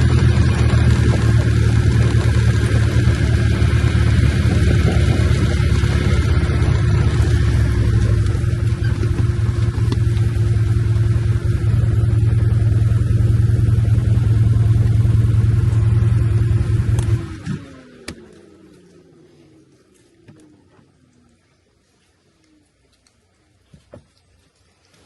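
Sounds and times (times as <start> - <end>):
engine running and winding down: 0.0 - 21.4.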